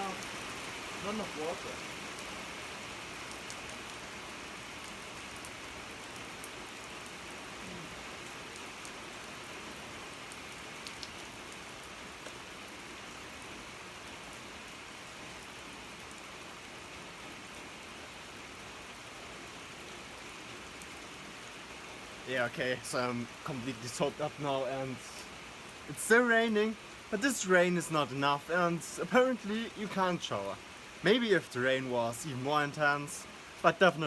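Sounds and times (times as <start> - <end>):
heavy rain hissing: 0.0 - 34.0
raindrops ticking nearby: 0.0 - 34.0.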